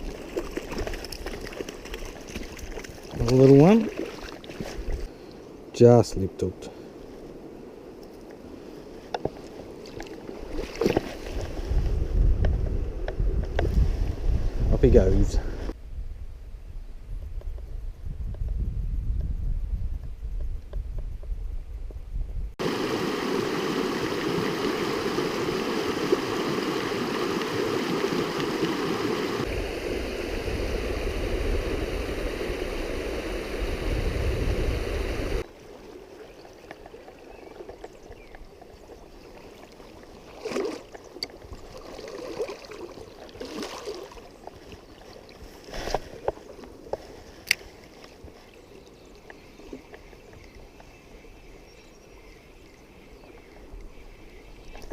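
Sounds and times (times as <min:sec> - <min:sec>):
stream water running: 0:00.0 - 0:15.8, 0:22.6 - 0:54.9.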